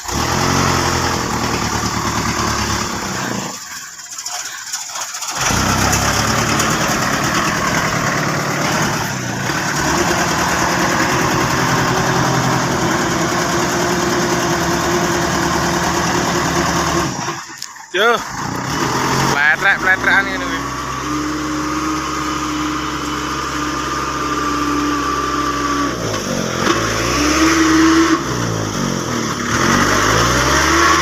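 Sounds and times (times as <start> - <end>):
truck engine starting and running: 0.0 - 31.0.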